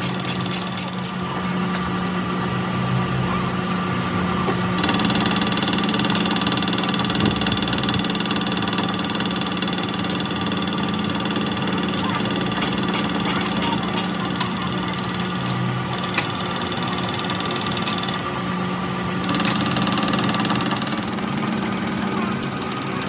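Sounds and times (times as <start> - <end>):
high-pitched tool whine: 0.0 - 23.0
workshop machine motor humming: 0.0 - 23.0.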